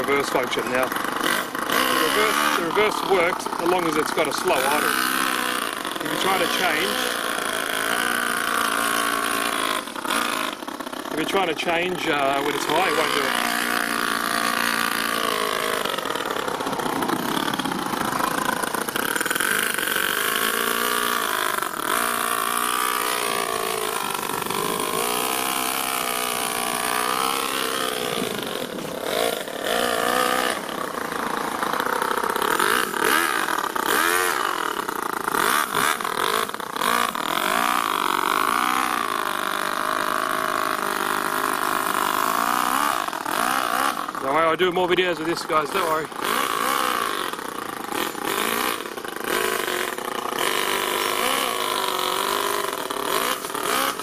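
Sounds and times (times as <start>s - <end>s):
model engine revving: 0.0s - 54.0s.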